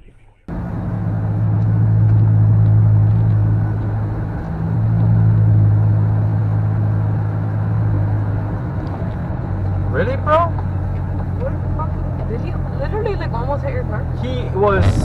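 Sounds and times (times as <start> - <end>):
car engine and road noise: 0.4 - 15.0.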